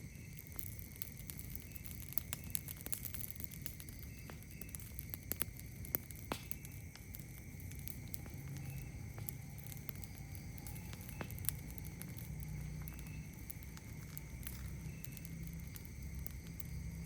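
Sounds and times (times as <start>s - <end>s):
campfire crackling and popping: 0.0s - 17.0s
night insects droning: 0.0s - 17.0s.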